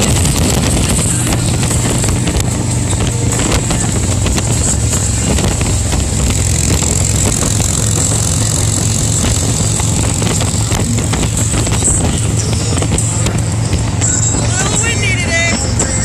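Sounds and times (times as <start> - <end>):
motorcycle engine running: 0.0 - 16.0
wind rush on microphone: 0.0 - 16.0.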